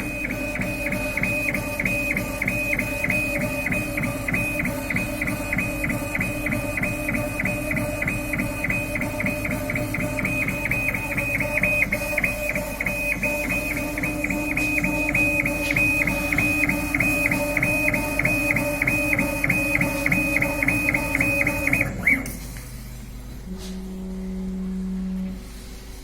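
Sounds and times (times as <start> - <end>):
steady machine hum: 0.0 - 26.0
stepper motors whining in pulses: 0.0 - 26.0.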